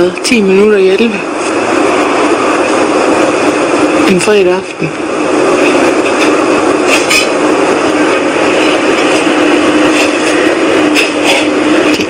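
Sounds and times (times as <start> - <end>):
constant low hum: 0.0 - 12.0
loud whooshing rumble: 0.8 - 12.0.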